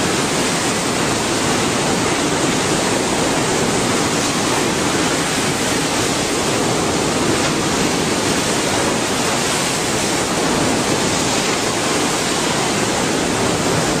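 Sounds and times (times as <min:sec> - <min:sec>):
loud steady rushing noise: 0:00.0 - 0:14.0.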